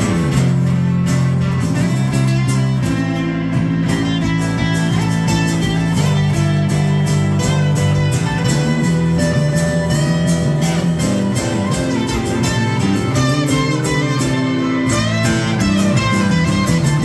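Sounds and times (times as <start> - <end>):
guitar strumming chords: 0.0 - 17.0.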